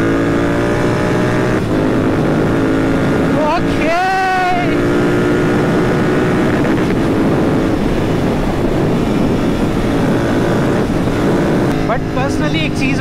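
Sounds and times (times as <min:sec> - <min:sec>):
motorcycle engine running: 0:00.0 - 0:13.0
road and air noise: 0:00.0 - 0:13.0.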